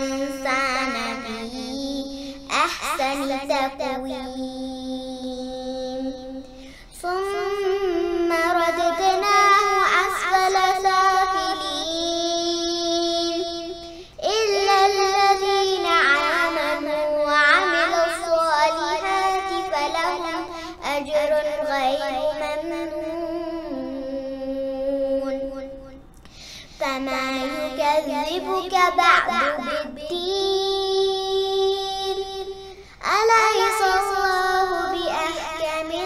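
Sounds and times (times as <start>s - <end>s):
girl chanting recitation: 0.0s - 26.0s, 26.7s - 36.0s.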